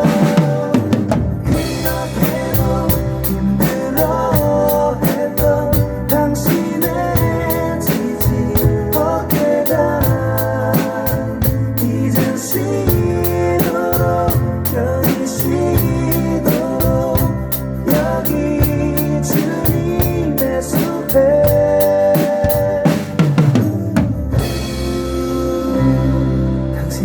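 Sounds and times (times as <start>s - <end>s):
drum kit playing: 0.0s - 25.8s
recorded worship song with singer: 0.0s - 27.0s.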